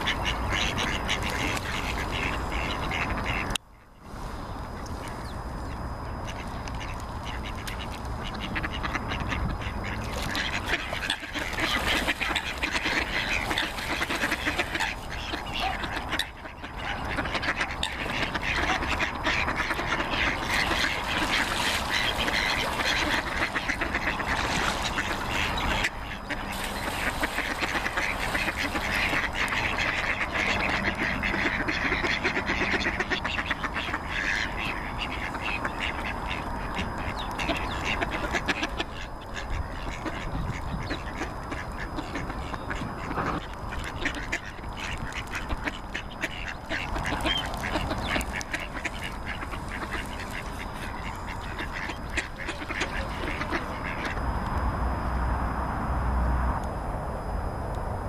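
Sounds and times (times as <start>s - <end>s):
ducks quacking: 0.0s - 3.6s, 5.8s - 54.3s.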